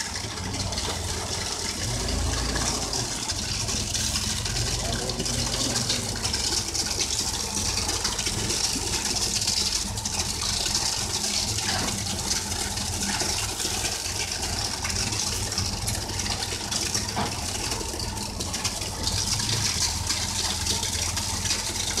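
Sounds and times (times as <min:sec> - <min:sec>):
concrete mixer engine running: 0:00.0 - 0:22.0
wet concrete rushing and splattering: 0:00.0 - 0:22.0.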